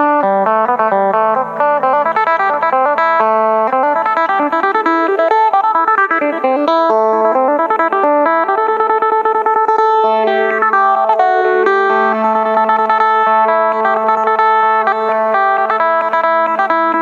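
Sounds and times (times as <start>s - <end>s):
electric lute melody with phaser: 0.0s - 17.0s.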